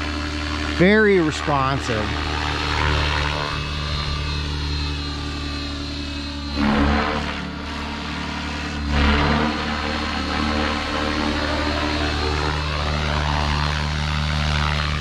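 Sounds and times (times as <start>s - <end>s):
rc helicopter rotor and motor whine: 0.0s - 15.0s.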